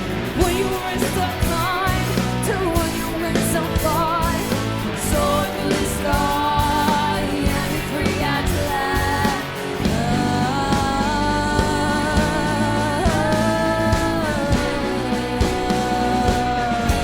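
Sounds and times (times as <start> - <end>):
live rock music: 0.0 - 17.0.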